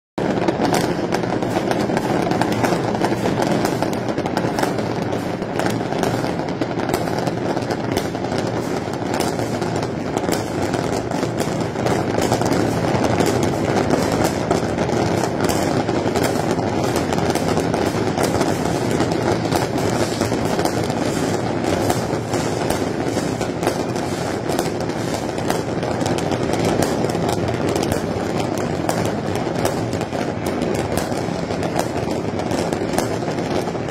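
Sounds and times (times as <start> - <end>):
fireworks cracking and popping: 0.2 - 33.9.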